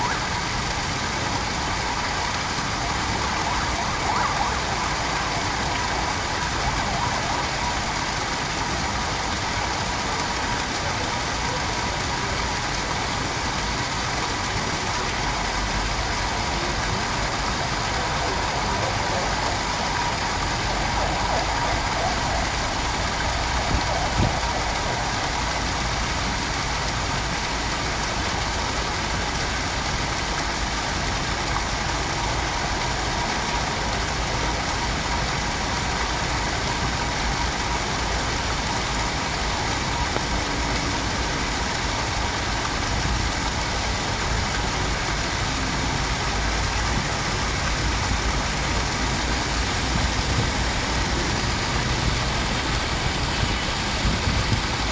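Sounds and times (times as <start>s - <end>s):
waterfall splashing into a pond: 0.0s - 54.9s.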